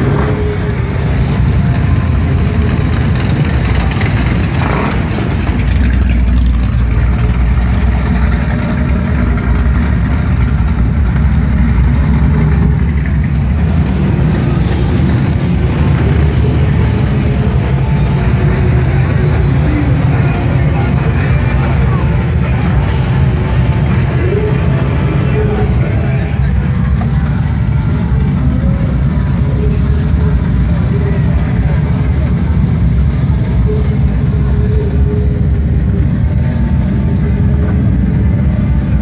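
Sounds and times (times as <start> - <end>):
street traffic engine rumble: 0.0 - 39.0.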